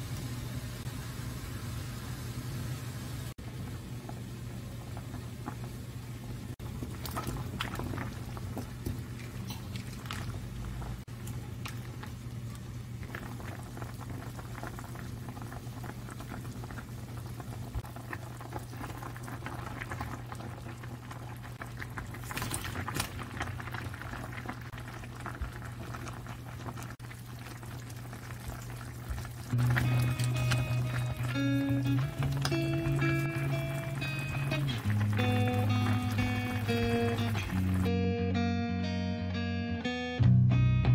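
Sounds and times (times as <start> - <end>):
stew bubbling in a pot: 0.1 - 37.9.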